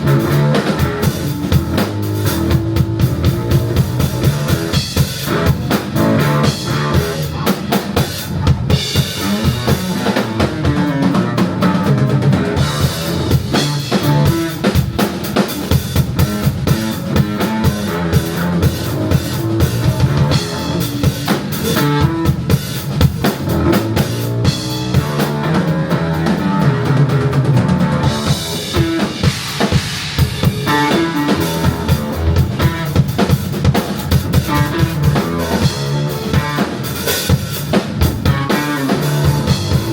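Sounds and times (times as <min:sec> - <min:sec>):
drum kit hits: 0:00.0 - 0:39.9
live rock band playing: 0:00.0 - 0:39.9.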